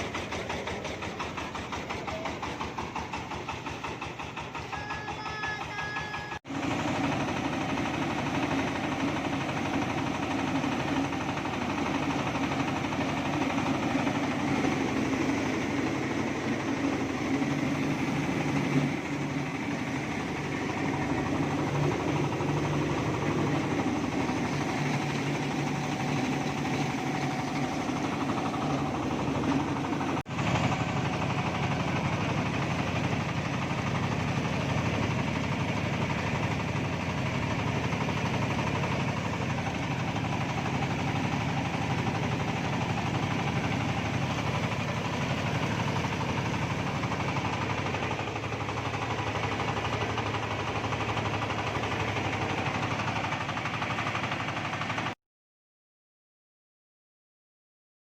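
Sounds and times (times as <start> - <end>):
rice huller engine running: 0.0 - 55.2.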